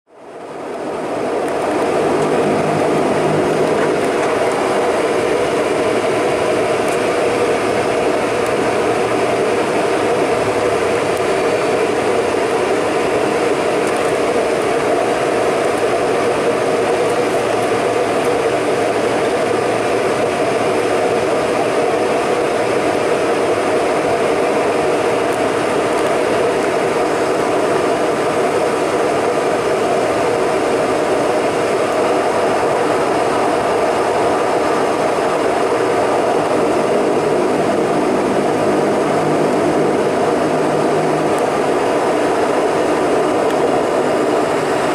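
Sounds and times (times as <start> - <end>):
turboprop engine drone in cabin: 0.1 - 44.9.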